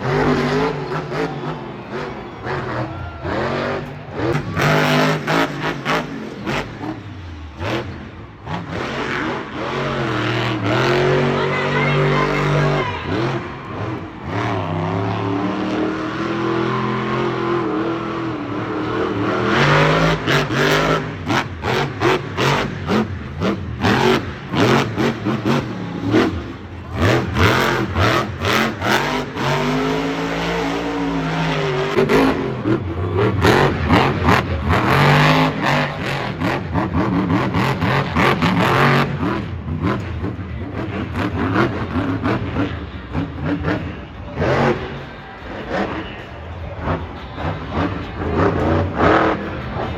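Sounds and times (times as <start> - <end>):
truck engine revving hard: 0.0 - 49.9.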